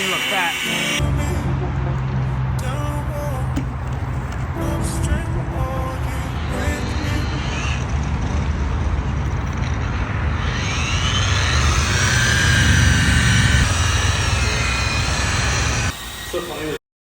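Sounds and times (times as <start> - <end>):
engine running under load: 0.0 - 15.9.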